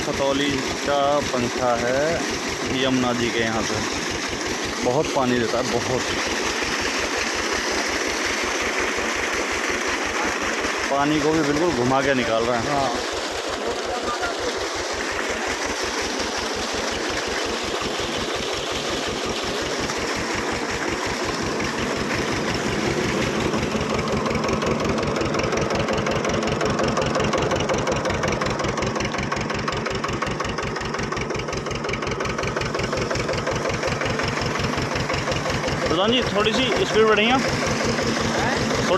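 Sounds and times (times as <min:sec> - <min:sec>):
tractor diesel engine running: 0:00.0 - 0:38.9
water pump pumping: 0:00.0 - 0:38.9.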